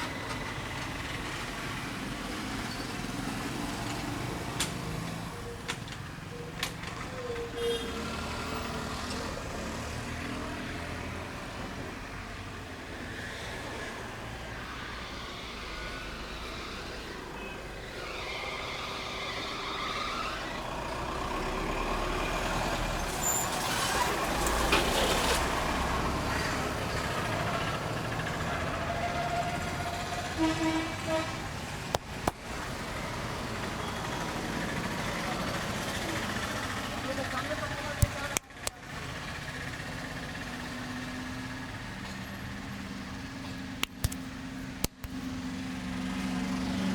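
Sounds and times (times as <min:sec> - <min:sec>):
traffic rumble: 0:00.0 - 0:46.9.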